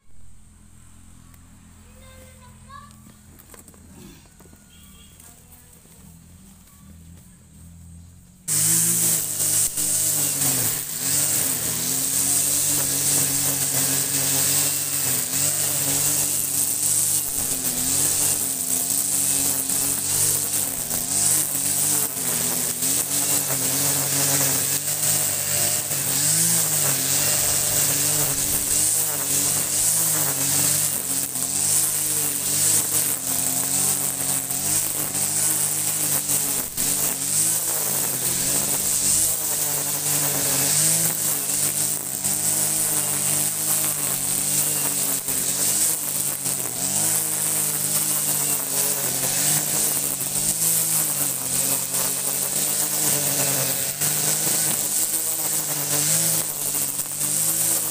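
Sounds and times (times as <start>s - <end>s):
brush cutter engine at high throttle: 0.0s - 57.9s.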